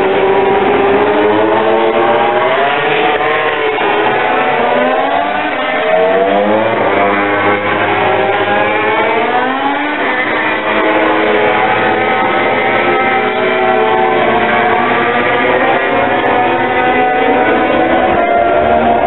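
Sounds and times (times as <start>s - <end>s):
racing motorcycle engine revving: 0.0s - 19.0s.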